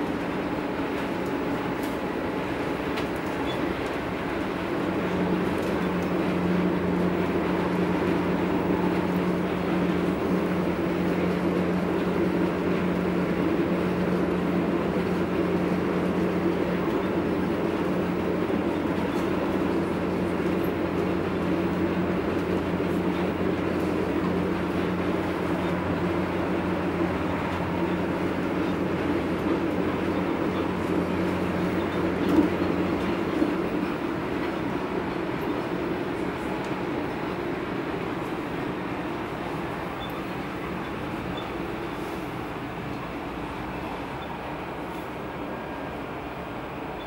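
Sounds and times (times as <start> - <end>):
constant low hum: 0.0 - 47.0.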